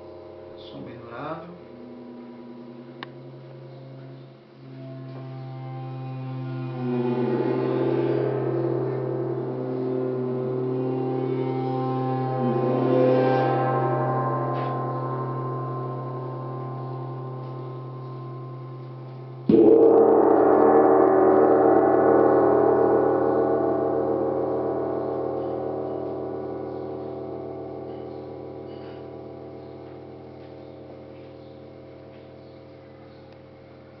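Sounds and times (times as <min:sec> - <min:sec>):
tam-tam strike: 0:00.0 - 0:33.4
tam-tam ringing: 0:00.0 - 0:33.6.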